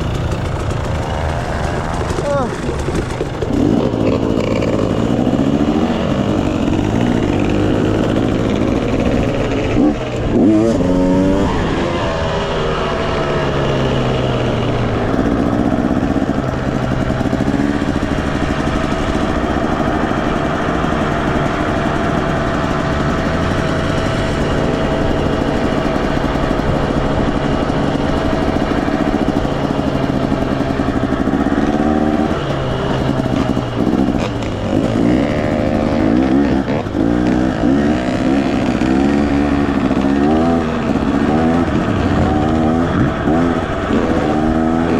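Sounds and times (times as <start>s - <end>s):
two-stroke dirt bike revving: 0.0s - 44.9s.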